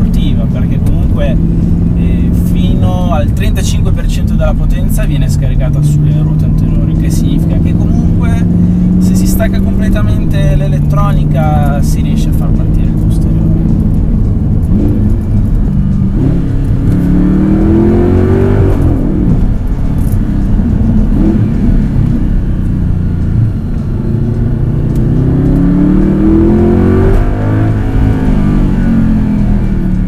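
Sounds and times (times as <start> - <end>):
car engine accelerating hard: 0.0 - 30.0
gear upshift: 0.0 - 30.0.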